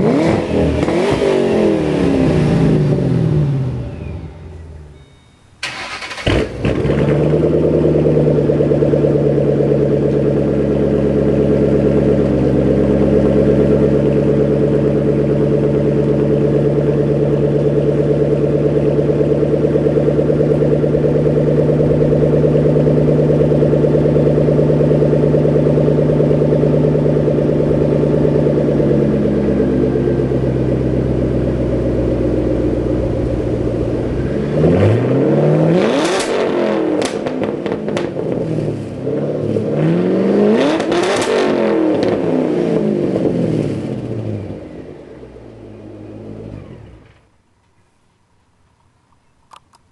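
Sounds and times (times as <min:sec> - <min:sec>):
car engine starting and idling: 0:00.0 - 0:47.8.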